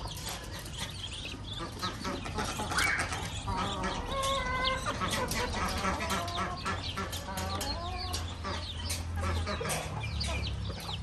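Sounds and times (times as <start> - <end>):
ducklings and chick peeping: 0.0 - 11.0
hen clucking: 0.0 - 11.0.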